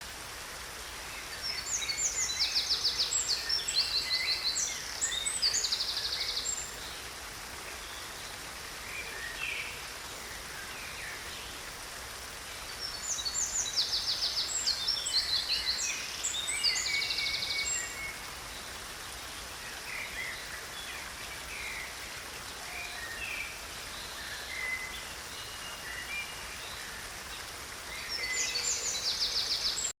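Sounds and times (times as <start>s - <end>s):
rain hissing: 0.0s - 30.0s.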